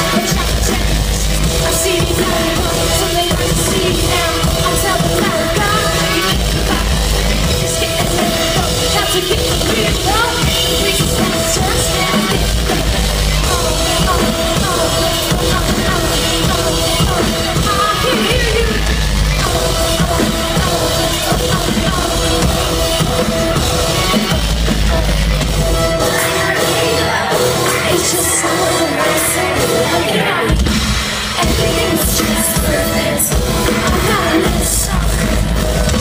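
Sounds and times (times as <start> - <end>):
heavy low bass notes: 0.0 - 36.0
live rock band playing: 0.0 - 36.0
pounding drum kit: 0.0 - 36.0.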